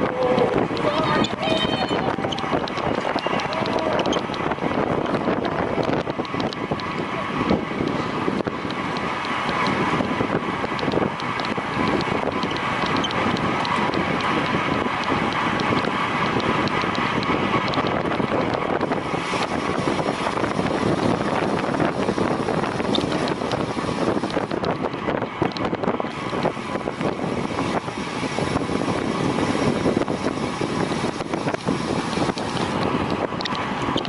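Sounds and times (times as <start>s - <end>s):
road and riding noise: 0.0s - 34.0s
wind rushing over microphone: 0.0s - 34.0s.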